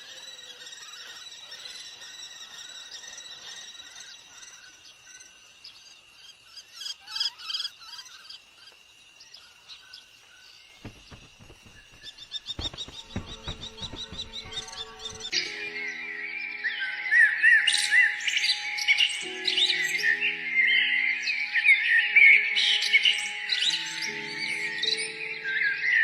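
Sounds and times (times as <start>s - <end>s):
small birds chirping: 0.0s - 25.8s.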